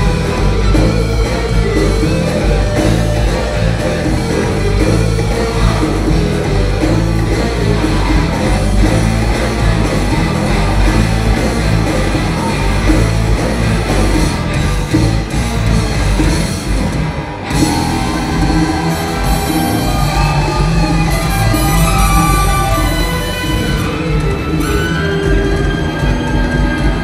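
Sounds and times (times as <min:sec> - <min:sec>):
electric guitar: 0:00.0 - 0:27.0
live funk-rock band: 0:00.0 - 0:27.0.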